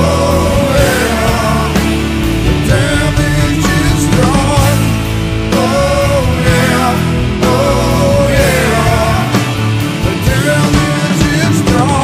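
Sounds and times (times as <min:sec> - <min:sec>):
man singing: 0:00.0 - 0:12.0
rock song with distorted guitars: 0:00.0 - 0:12.0.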